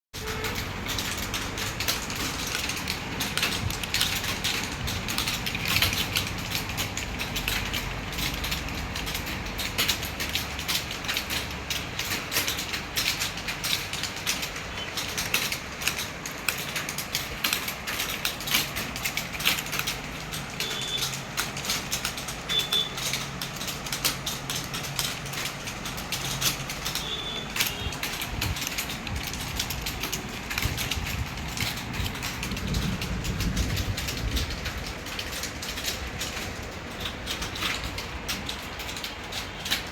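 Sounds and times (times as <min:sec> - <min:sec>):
fast keyboard typing: 0:00.2 - 0:39.9.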